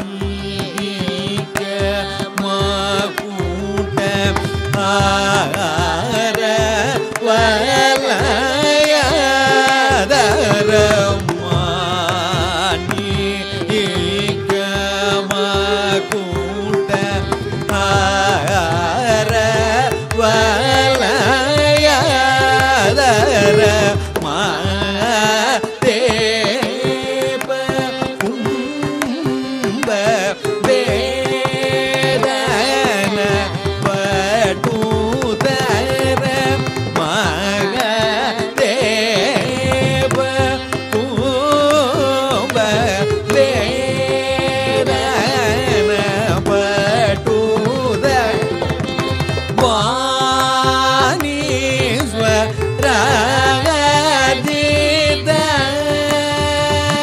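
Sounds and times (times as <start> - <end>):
man singing ornamented melody: 0.0 - 57.0
violin: 0.0 - 57.0.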